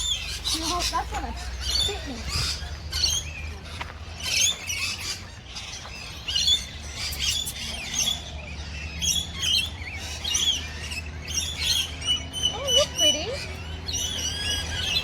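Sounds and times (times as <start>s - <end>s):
many birds chirping and squawking: 0.0s - 15.0s.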